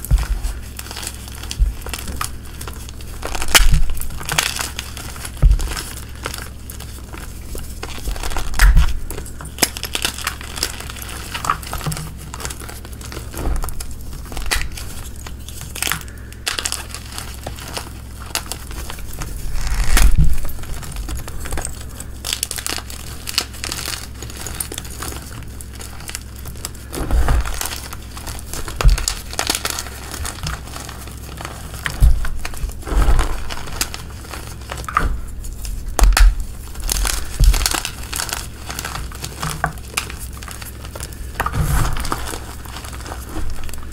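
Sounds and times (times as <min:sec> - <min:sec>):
hands crushing chalk: 0:00.0 - 0:43.9.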